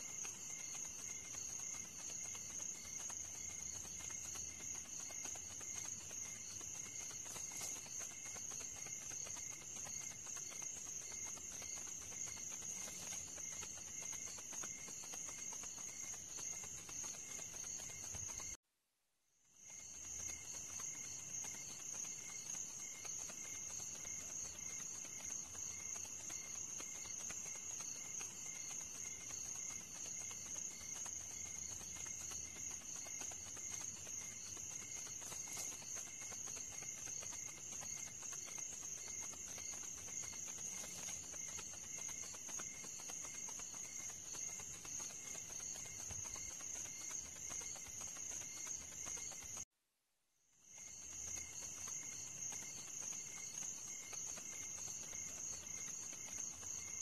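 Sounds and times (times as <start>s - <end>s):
insects chirring: 0.0s - 18.6s, 19.6s - 49.6s, 50.7s - 57.0s.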